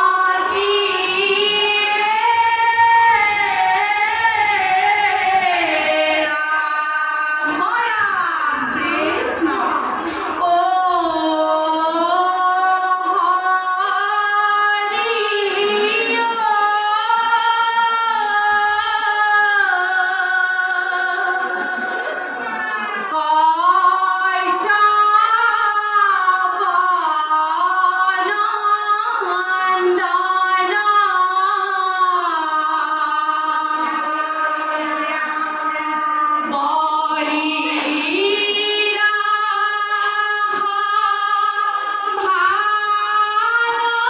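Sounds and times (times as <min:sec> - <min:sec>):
women singing devotional chant: 0:00.0 - 0:44.0.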